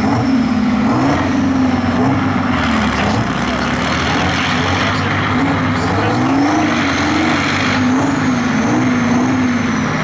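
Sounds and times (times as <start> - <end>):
tractor diesel engine straining: 0.0 - 10.0.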